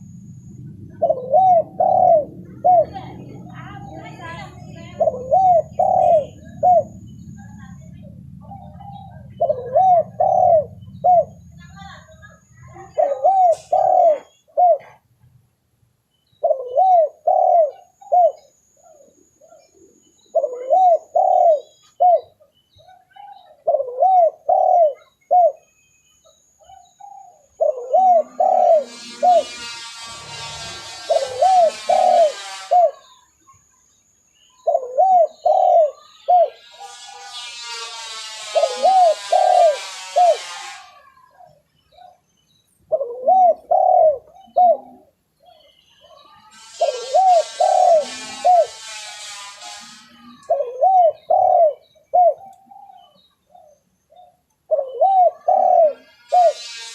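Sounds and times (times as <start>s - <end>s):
harsh raspy bird call: 0.0s - 7.4s, 8.4s - 15.0s, 16.4s - 25.7s, 26.6s - 33.7s, 34.6s - 42.2s, 42.9s - 56.9s
dove cooing: 0.0s - 15.1s, 16.4s - 25.7s, 26.6s - 33.8s, 34.5s - 42.2s, 42.9s - 56.9s.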